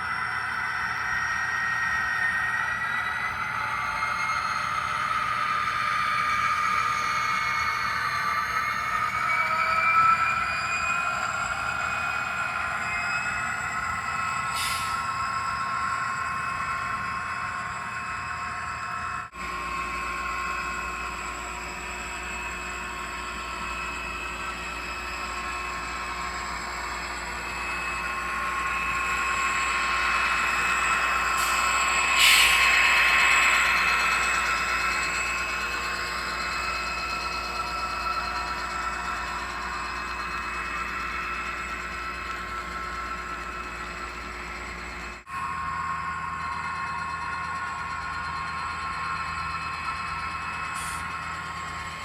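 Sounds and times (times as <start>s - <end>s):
model locomotive whine: 0.0s - 52.0s.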